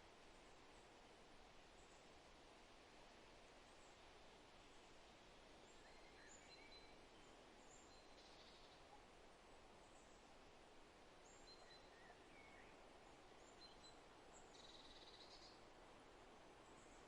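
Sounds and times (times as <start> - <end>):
wind in forest trees: 0.0 - 17.0.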